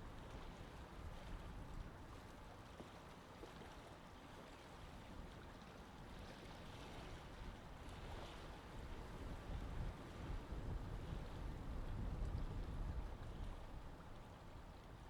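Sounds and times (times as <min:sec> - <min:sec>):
sea water: 0:00.0 - 0:15.0
wind: 0:00.0 - 0:15.0.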